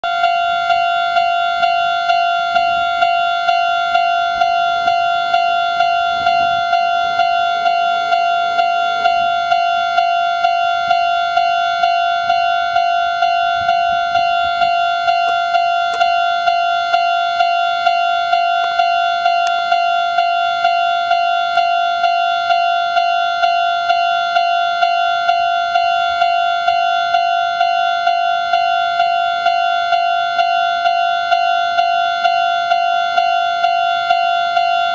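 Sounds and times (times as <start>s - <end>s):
level crossing warning bell: 0.0s - 34.9s.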